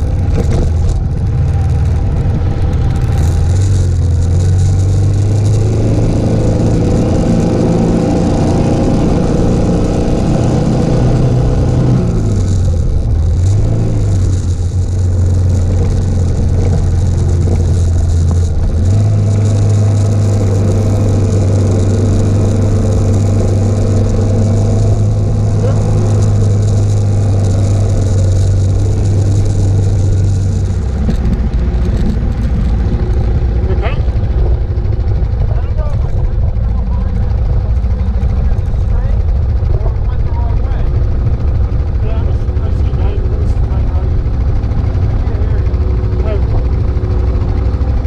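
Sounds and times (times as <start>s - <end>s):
motorcycle engine cruising: 0.0s - 48.0s
wind and road noise: 0.0s - 48.0s.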